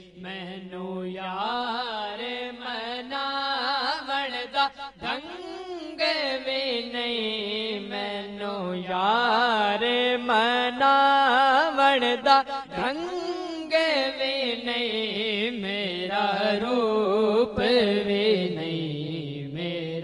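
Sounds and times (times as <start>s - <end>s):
man singing ornamented melody: 0.0s - 20.0s.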